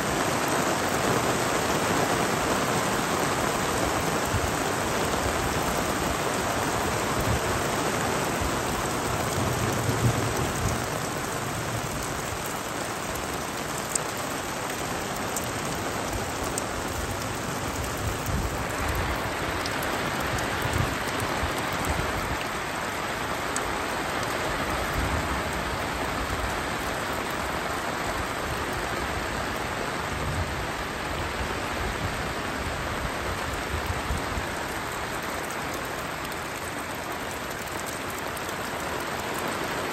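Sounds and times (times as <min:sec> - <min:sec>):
heavy rain: 0:00.0 - 0:39.9
raindrops ticking close by: 0:00.0 - 0:39.9.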